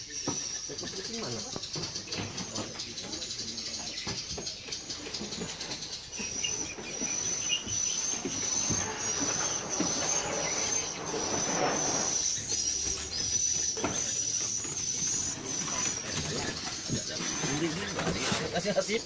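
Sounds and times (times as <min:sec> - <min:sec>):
knocks and rustling: 0:00.2 - 0:19.0.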